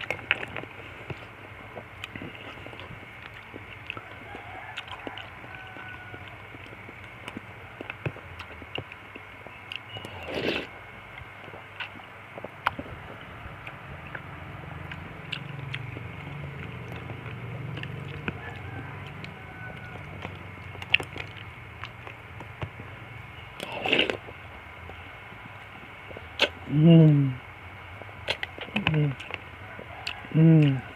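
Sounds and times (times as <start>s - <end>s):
person chewing and biting: 0.0s - 10.8s, 11.4s - 22.8s, 23.6s - 25.4s, 26.1s - 26.7s, 28.0s - 29.4s.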